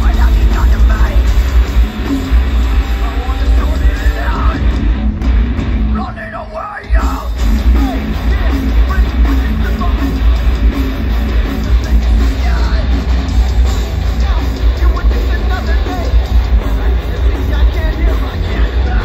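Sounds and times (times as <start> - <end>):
live heavy metal music: 0.0 - 19.0.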